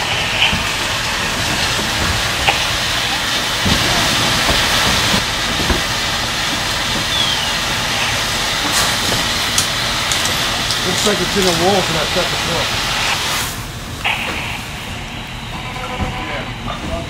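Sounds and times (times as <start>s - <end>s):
fire engines and pumps running: 0.0s - 17.0s.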